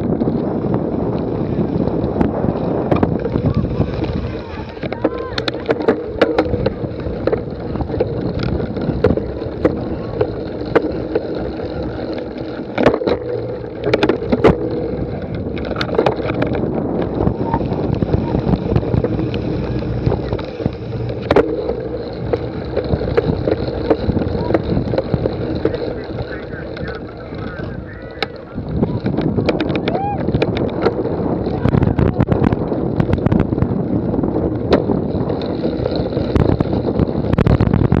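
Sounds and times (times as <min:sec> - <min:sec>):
wind rushing over microphone: 0:00.0 - 0:38.0
sharp knocks and rattles: 0:02.9 - 0:27.6, 0:28.2 - 0:38.0.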